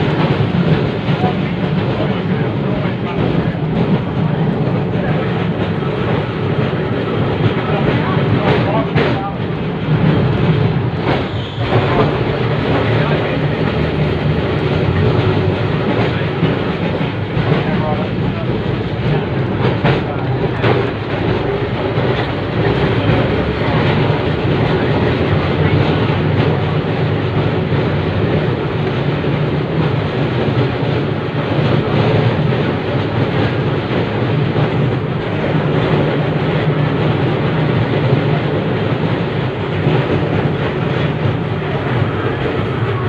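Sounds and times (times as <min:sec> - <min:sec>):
tram wheels rumbling on rail: 0:00.0 - 0:43.0.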